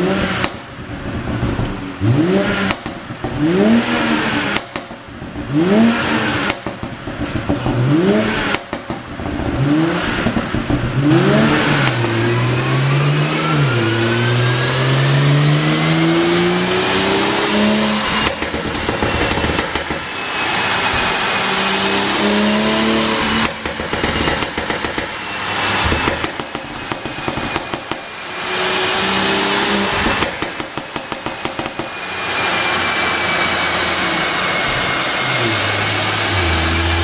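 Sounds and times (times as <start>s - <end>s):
exhaust pops and crackles: 0.0s - 12.8s, 16.6s - 28.4s, 29.5s - 34.9s
car engine revving: 0.0s - 37.0s.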